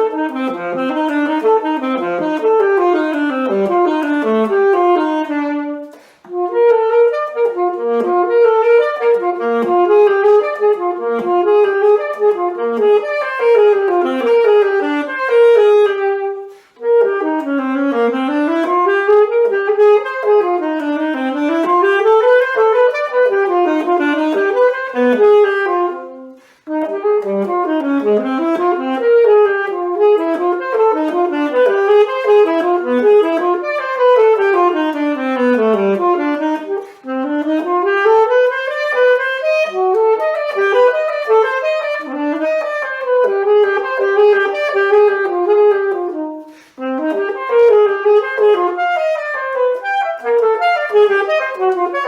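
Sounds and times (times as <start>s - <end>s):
solo wind instrument melody: 0.0s - 52.0s.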